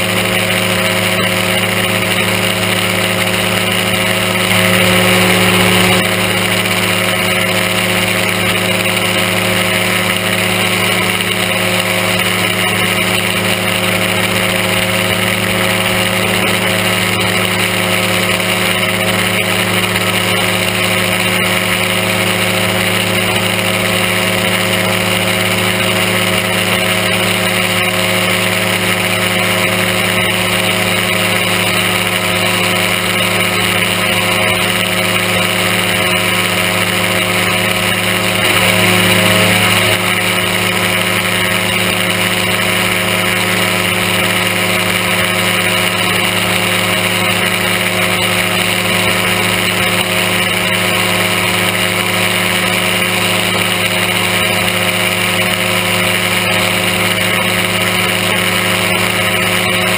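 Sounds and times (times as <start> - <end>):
microlight engine and propeller: 0.0 - 59.9.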